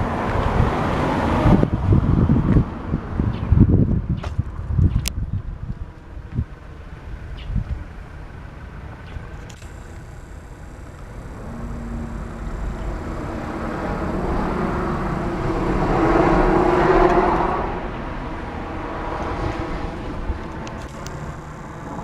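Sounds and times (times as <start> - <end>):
road vehicle passing: 0.0 - 4.8, 5.4 - 22.0
outdoor background noise: 0.0 - 22.0.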